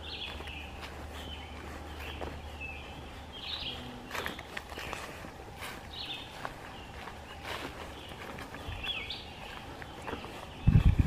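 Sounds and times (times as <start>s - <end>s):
footsteps on dirt trail: 0.0s - 11.0s
songbirds chirping: 0.0s - 11.0s.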